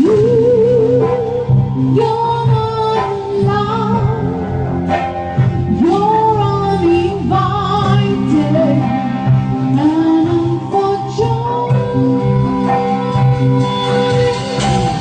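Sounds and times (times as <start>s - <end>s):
woman singing with vibrato: 0.0s - 5.0s, 5.6s - 15.0s
guitar and band accompaniment: 0.0s - 15.0s.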